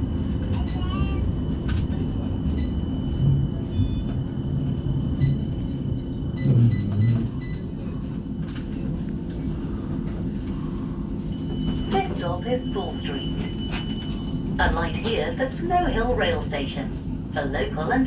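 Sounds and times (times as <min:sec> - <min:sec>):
tram low hum: 0:00.0 - 0:18.0
tram rumbling on track: 0:00.0 - 0:18.0.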